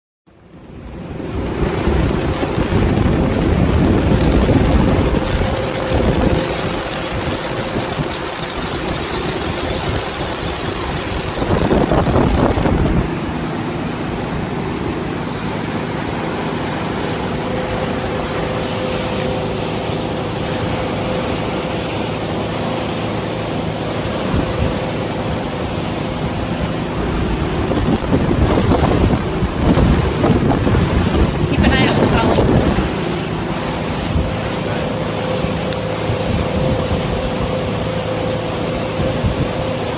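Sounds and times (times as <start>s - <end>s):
motorboat engine running: 0.3s - 39.9s
rush of boat wake: 0.3s - 39.9s
wind buffeting microphone: 0.8s - 22.3s, 24.0s - 39.9s.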